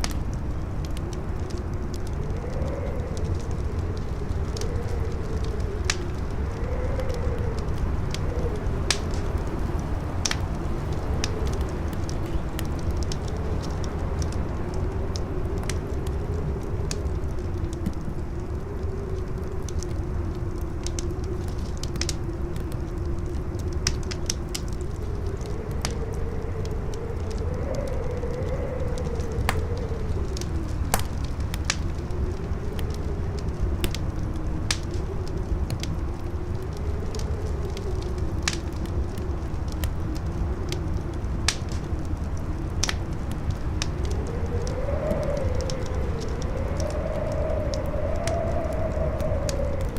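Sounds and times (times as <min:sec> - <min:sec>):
campfire crackling and popping: 0:00.0 - 0:49.9
howling wind whistle: 0:00.0 - 0:49.9.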